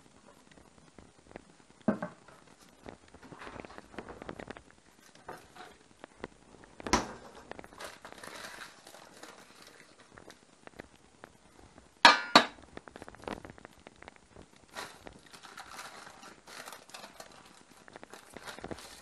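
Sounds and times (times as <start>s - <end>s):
paper crinkling: 2.2s - 11.9s, 12.6s - 19.0s.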